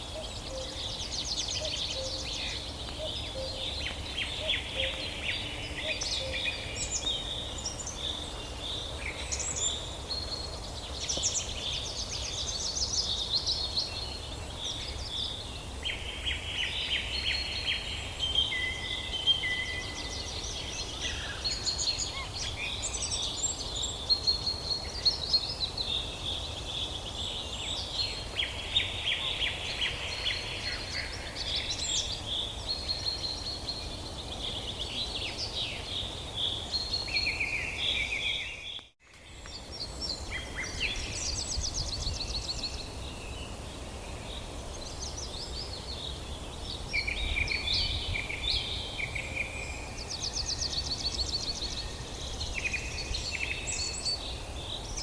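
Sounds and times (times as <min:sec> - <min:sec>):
songbirds singing and calling: 0:00.0 - 0:55.0.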